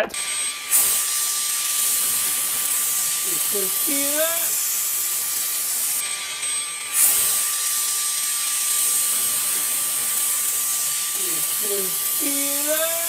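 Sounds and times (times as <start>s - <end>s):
air duster blowing with whine: 0.0s - 13.0s
compressed air blast: 0.7s - 6.0s, 6.9s - 12.8s.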